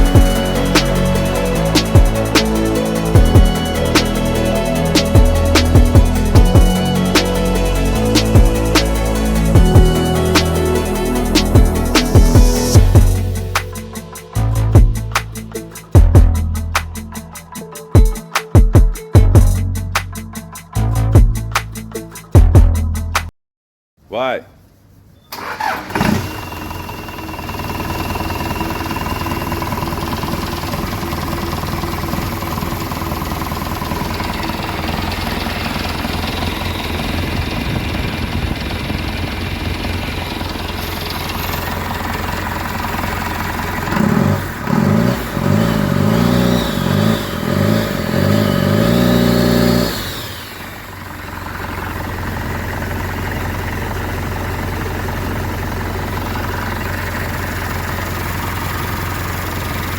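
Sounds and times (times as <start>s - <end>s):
diesel engine idling and revving: 0.0s - 17.2s, 25.4s - 59.9s.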